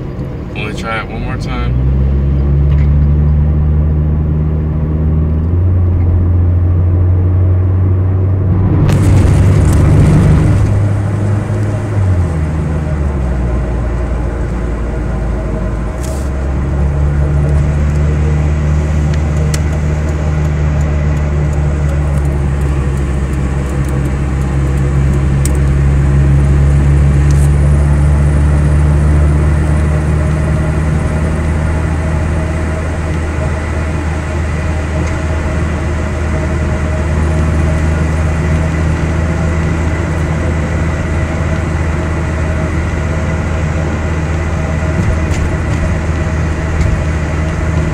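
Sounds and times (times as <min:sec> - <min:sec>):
car engine drone: 0:00.0 - 0:47.9
road noise: 0:00.0 - 0:47.9.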